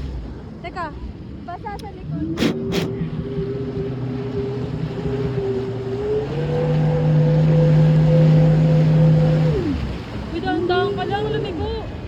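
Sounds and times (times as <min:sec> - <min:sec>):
jet ski engine running: 0:00.0 - 0:12.0
water and wind rushing: 0:00.0 - 0:12.0.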